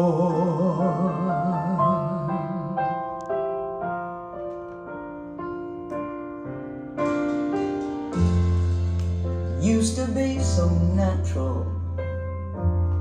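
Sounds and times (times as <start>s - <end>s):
piano notes and chords: 0.0s - 13.0s.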